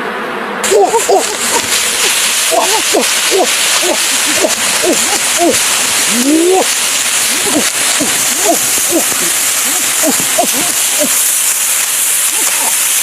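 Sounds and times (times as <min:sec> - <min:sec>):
steady high hiss: 0:00.0 - 0:13.0
animal hooting calls: 0:00.6 - 0:11.3.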